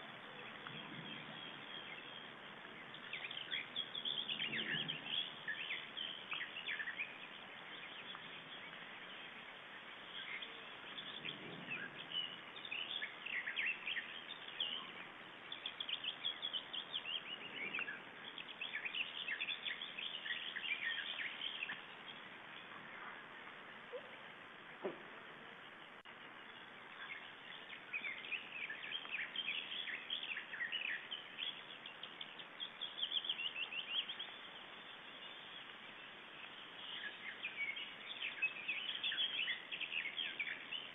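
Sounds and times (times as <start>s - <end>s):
birds chirping: 0.0s - 40.9s
steady background hiss: 0.0s - 40.9s.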